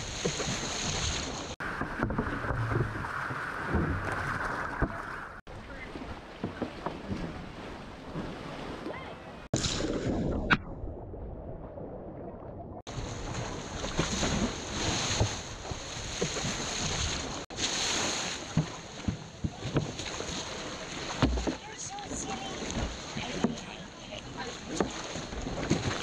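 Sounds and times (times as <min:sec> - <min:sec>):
waves slapping: 0:00.0 - 0:10.6, 0:12.8 - 0:26.0
water splashing and sloshing: 0:00.0 - 0:26.0.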